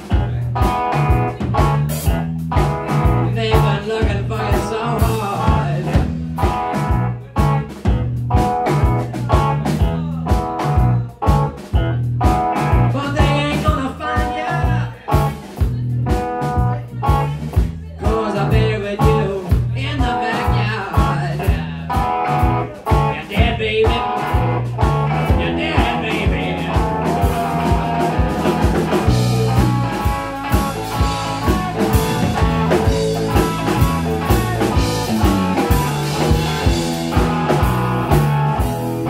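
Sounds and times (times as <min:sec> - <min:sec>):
bass guitar: 0:00.0 - 0:39.0
drums: 0:00.0 - 0:39.0
electric guitar: 0:00.0 - 0:39.0.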